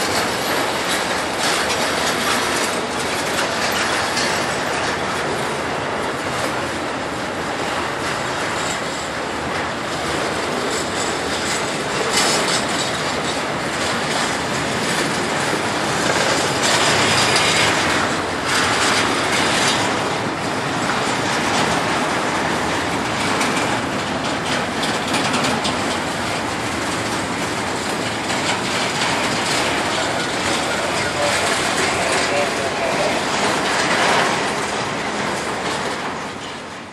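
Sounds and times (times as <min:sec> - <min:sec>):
hissing rail noise: 0:00.0 - 0:36.9
train wheels clattering on rails: 0:00.0 - 0:36.9.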